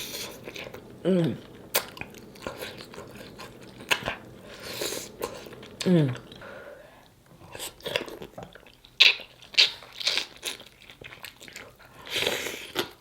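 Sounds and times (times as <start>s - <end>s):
close-miked chewing: 0.0s - 13.0s.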